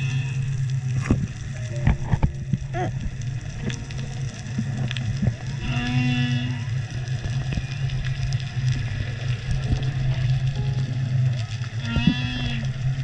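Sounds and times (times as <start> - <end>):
low hum: 0.0 - 13.0
whale song underwater: 0.0 - 13.0.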